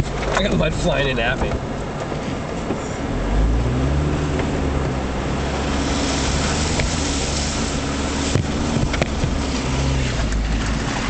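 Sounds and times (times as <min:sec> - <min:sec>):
car engine under load: 0:00.0 - 0:11.0
road and wind noise: 0:00.0 - 0:11.0.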